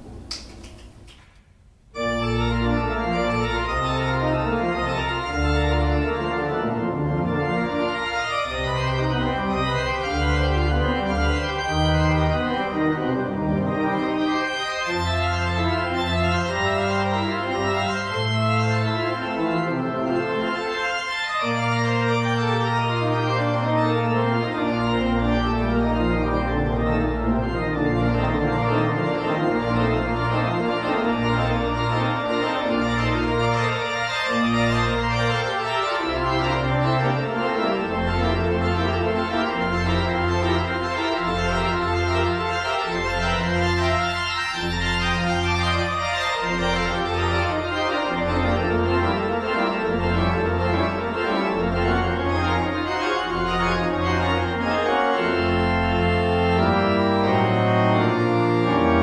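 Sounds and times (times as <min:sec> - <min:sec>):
organ music: 0:01.7 - 0:59.0.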